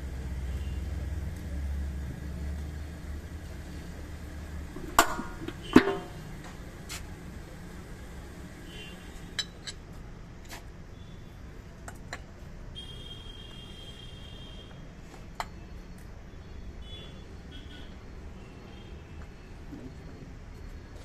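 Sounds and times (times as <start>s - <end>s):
low workshop hum: 0.0s - 21.0s.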